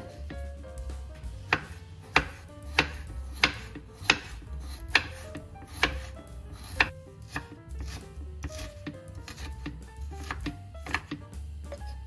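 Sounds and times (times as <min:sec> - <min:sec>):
knife chopping on wooden board: 0:00.0 - 0:12.0.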